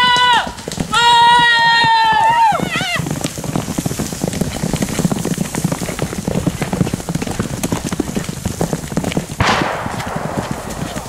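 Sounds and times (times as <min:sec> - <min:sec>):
horses cantering on dirt: 0:00.0 - 0:11.0.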